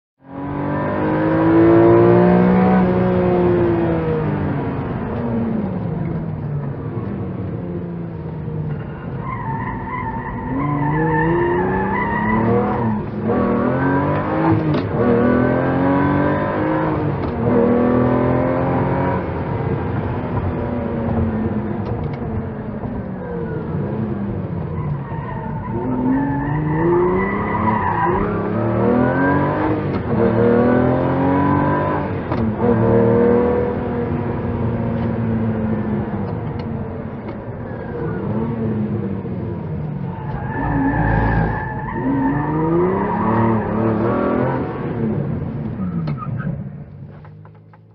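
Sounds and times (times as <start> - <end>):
car engine accelerating through gears: 0.2 - 47.9.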